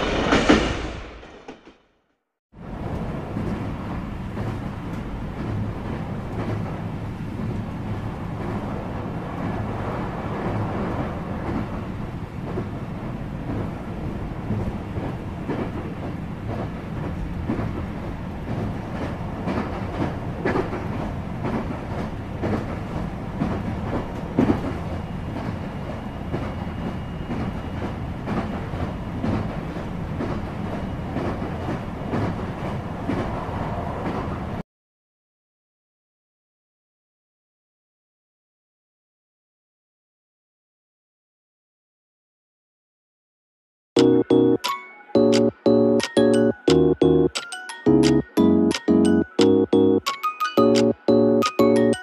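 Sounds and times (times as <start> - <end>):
subway train rumble and wheel clatter: 0.0 - 1.7, 2.6 - 34.6, 44.0 - 52.0.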